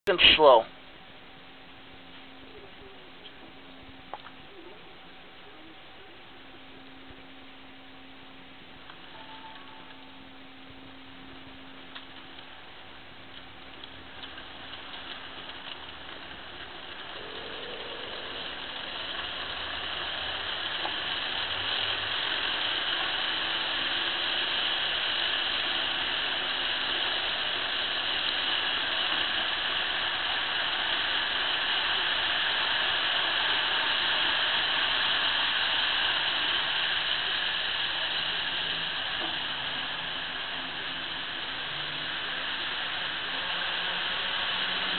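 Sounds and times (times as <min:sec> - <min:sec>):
model trains whirring rattle: 0:02.1 - 0:10.4, 0:11.1 - 0:44.9.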